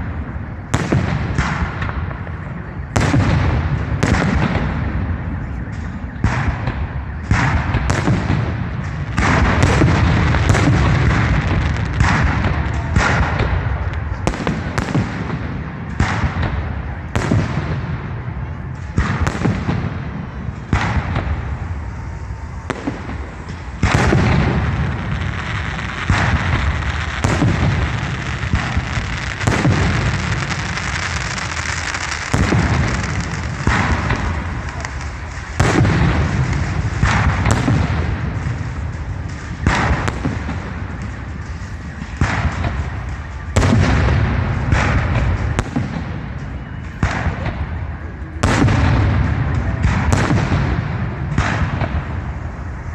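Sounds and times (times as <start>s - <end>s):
crackle and rumble of bursts: 0.0s - 46.1s.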